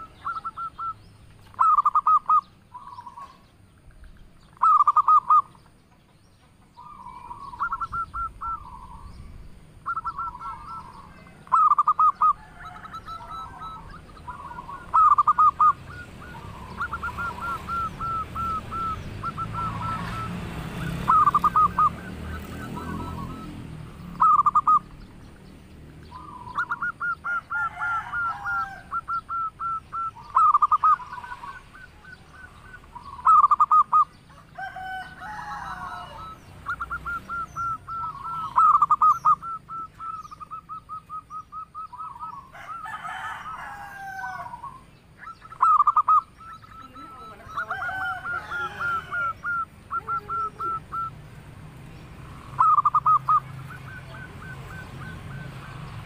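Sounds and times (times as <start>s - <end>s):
dove staccato cooing: 0.0s - 56.0s
harsh bird calls: 0.0s - 56.0s.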